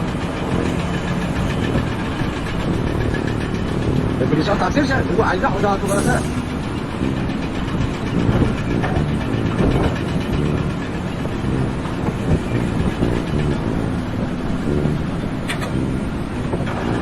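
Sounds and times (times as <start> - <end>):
heavy machinery rumbling: 0.0 - 17.0.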